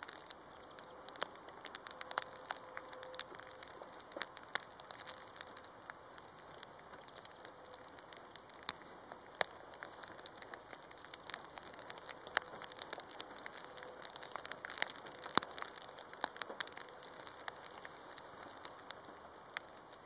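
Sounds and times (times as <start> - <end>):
raindrop taps: 0.0 - 20.0.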